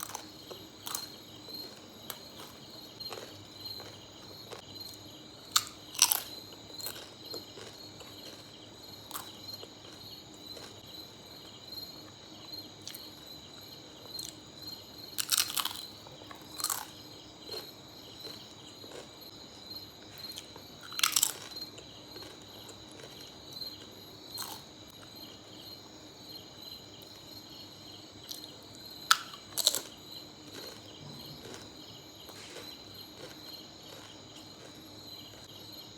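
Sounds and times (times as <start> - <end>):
crickets chirring: 0.0 - 35.9.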